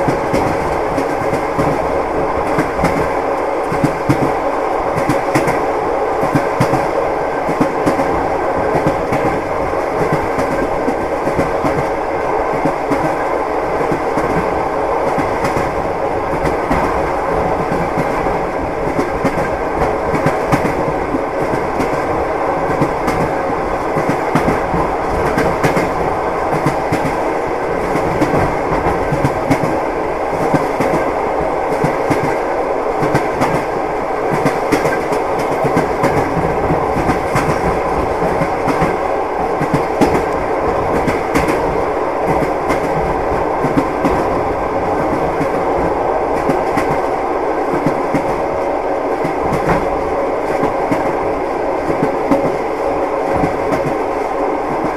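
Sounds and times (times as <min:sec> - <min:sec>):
train rumble on bridge: 0:00.0 - 0:54.9.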